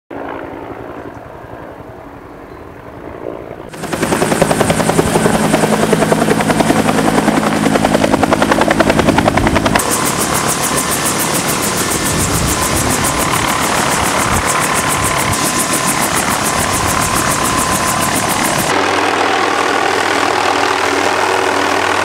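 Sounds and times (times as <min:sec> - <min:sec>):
helicopter rotor chop: 0:03.7 - 0:22.0.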